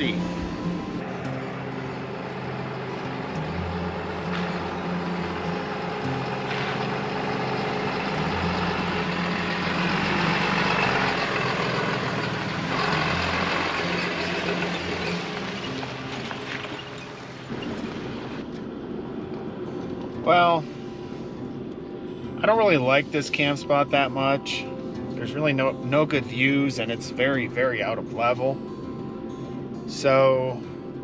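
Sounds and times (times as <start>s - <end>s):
vehicle engine running: 0.0s - 28.3s
tyre and road noise: 0.0s - 28.4s.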